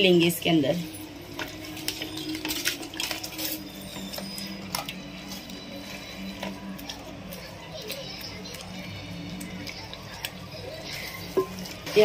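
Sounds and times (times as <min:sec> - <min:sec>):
meat frying: 0:01.2 - 0:12.0.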